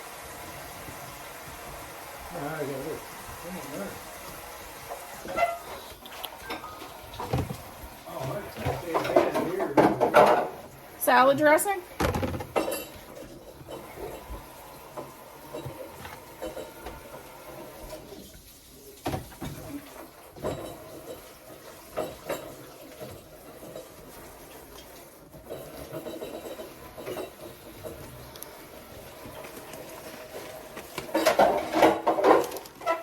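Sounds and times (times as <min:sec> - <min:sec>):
bottles and containers clattering: 0:05.2 - 0:33.0.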